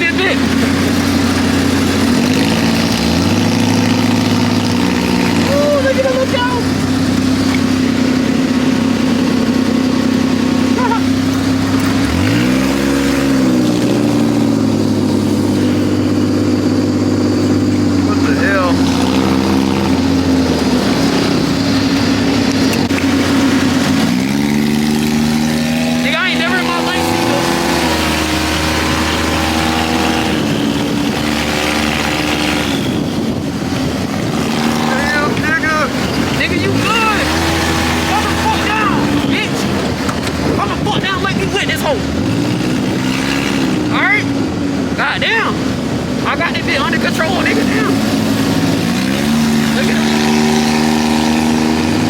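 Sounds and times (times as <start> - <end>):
atv engine running and revving: 0.0 - 52.0.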